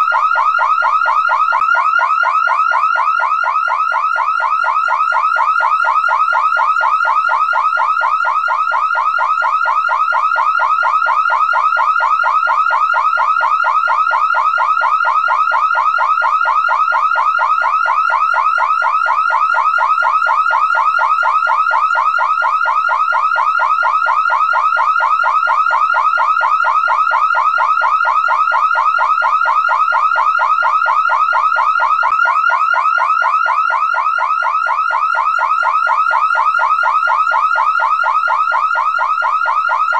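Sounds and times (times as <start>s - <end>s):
car alarm siren warbling: 0.0s - 39.9s.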